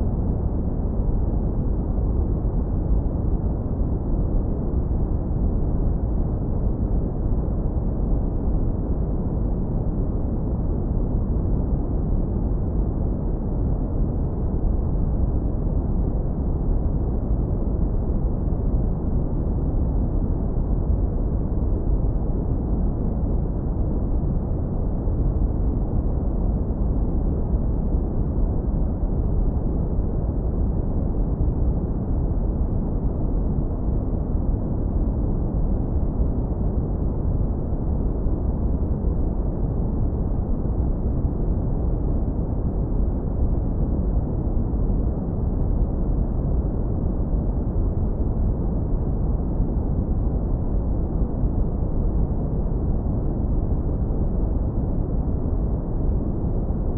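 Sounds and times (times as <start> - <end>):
deep brown noise rumble: 0.0 - 56.9.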